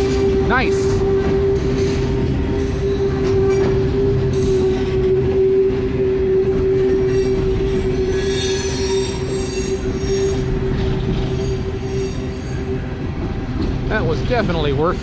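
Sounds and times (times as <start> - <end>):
shrill wheel squealing: 0.0 - 14.9
steel train wheels rumbling on rail: 0.0 - 15.0
wheels squealing: 0.0 - 15.0.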